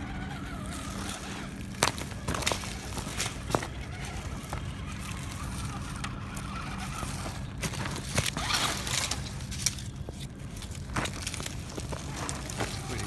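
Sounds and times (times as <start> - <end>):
rocks and gravel crunching: 0.0 - 13.0
steady low rumble: 0.0 - 13.0.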